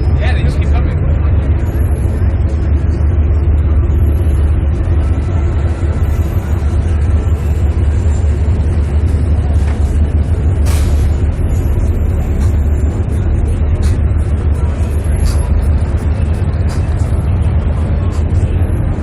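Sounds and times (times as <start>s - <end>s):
car engines idling: 0.0s - 19.0s.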